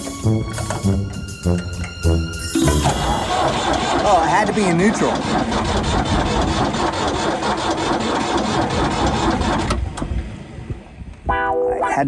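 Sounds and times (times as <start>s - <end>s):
tractor diesel engine clatter: 0.0s - 10.5s.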